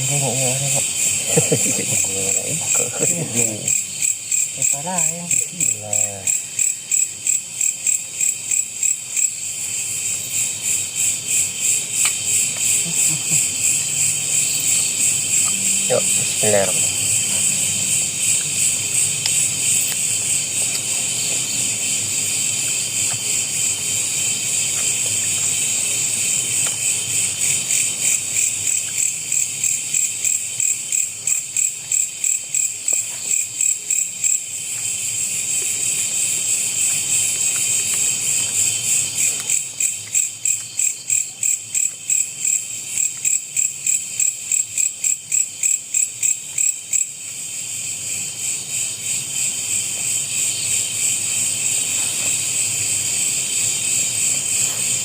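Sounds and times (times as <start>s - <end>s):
night insects shrilling: 0.0s - 55.0s.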